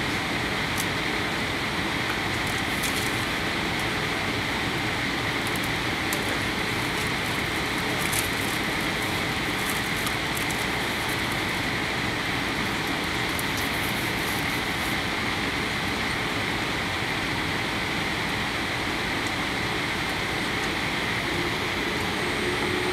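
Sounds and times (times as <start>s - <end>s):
aircraft cabin engine hiss: 0.0s - 22.9s
faint hum: 0.0s - 22.9s.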